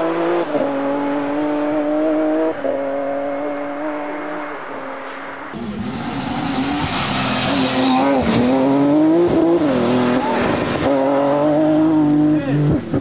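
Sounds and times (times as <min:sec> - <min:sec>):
car engine revving hard: 0:00.0 - 0:04.5, 0:05.6 - 0:13.0.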